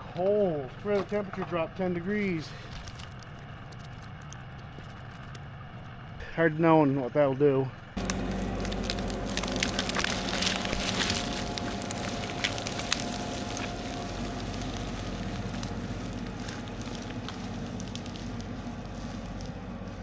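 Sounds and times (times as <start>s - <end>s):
tractor engine running: 0.0s - 20.0s
branches crackling and snapping: 0.1s - 6.1s, 8.0s - 20.0s.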